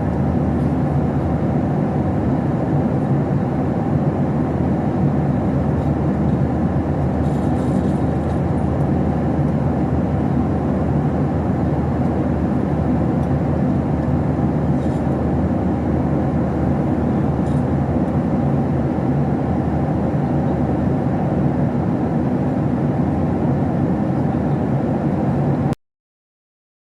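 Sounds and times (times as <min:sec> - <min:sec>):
airplane engine running: 0:00.0 - 0:25.8.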